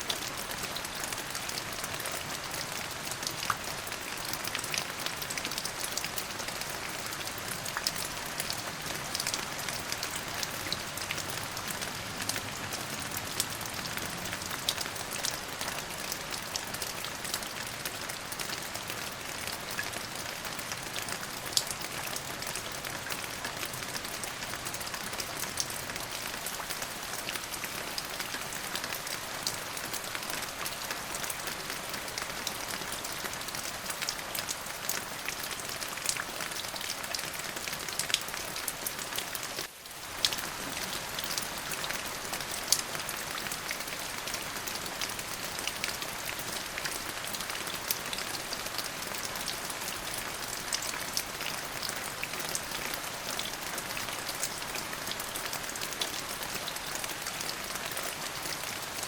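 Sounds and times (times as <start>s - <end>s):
raindrops ticking on a surface: 0.0s - 59.0s
steady rain falling: 0.0s - 59.0s.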